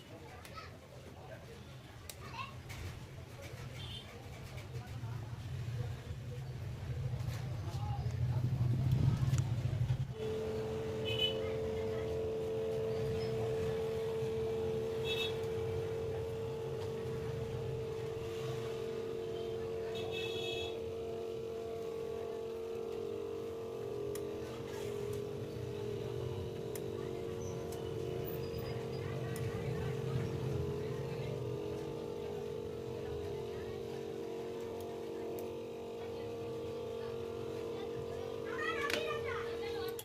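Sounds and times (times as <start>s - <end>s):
machine hum: 2.7s - 40.0s.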